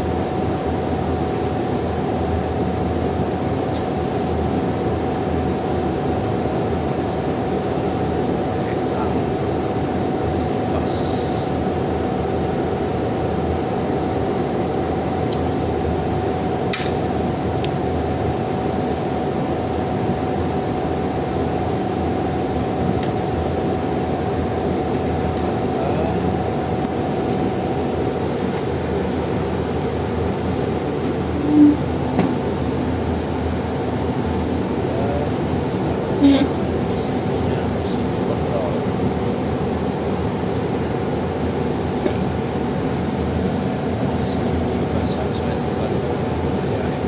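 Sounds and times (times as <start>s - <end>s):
mechanical hum with whine: 0.0s - 47.0s.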